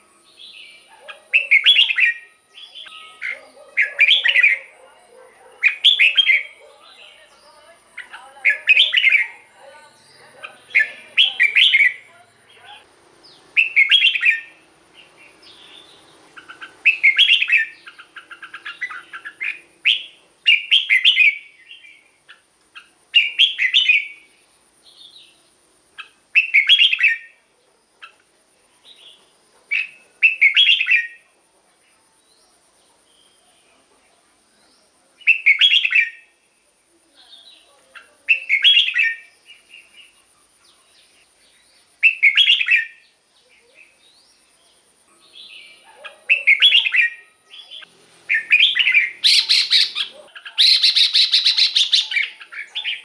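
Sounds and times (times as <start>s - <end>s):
bird singing short phrases: 0.0s - 4.8s, 5.6s - 25.4s, 26.0s - 27.4s, 28.8s - 31.2s, 34.6s - 36.4s, 37.3s - 53.0s.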